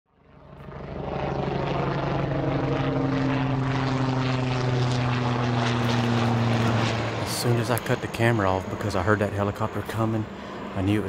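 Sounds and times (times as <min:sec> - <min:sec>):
helicopter flying close by: 0:00.1 - 0:11.0.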